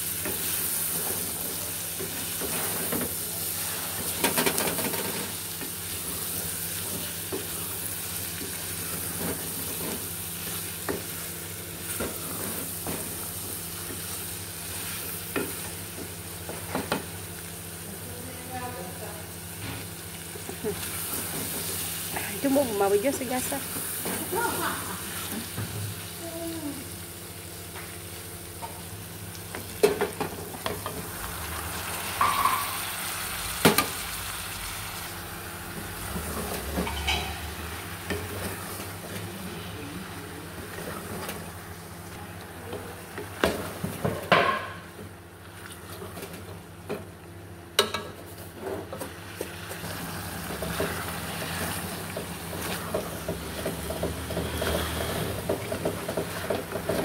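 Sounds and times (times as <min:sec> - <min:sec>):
food sizzling in a pot: 0:00.0 - 0:46.4, 0:47.1 - 0:57.0.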